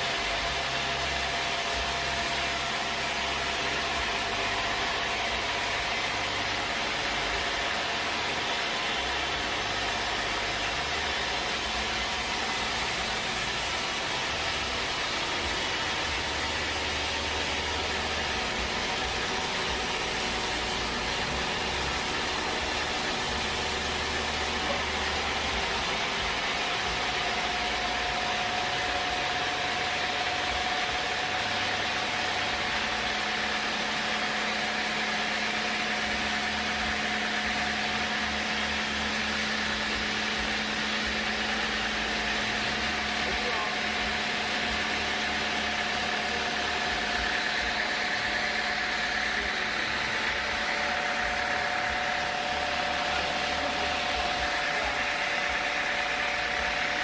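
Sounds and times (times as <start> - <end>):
faint machine whine: 0.0 - 57.0
sawmill machinery drone: 0.0 - 57.0.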